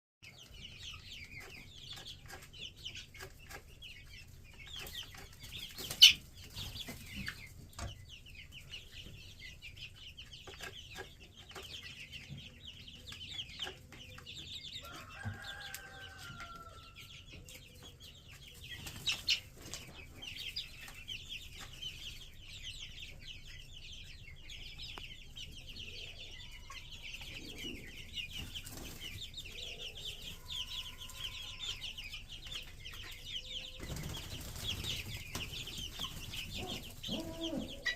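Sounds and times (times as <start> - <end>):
chicks peeping: 0.2 - 37.9.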